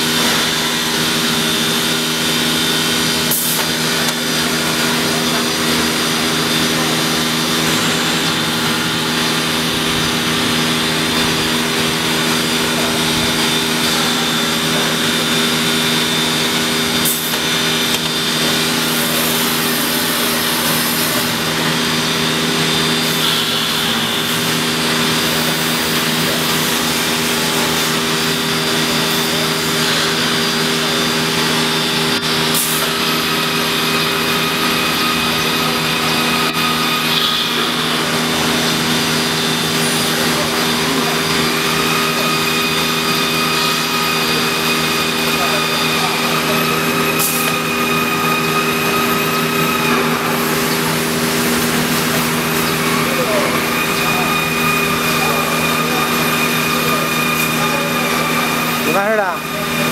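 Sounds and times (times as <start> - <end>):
wood router machining wood: 0.0 - 59.9.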